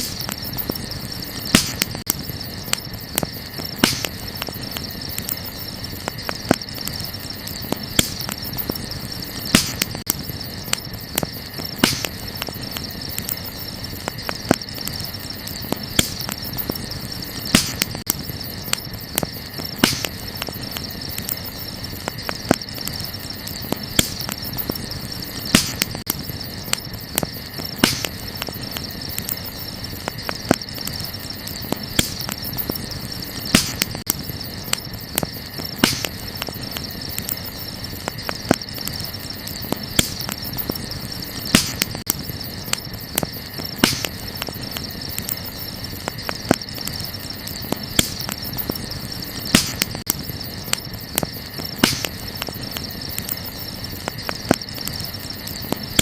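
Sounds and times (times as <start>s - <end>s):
night insects trilling: 0.0s - 56.0s
wood fire crackling and popping: 0.0s - 56.0s.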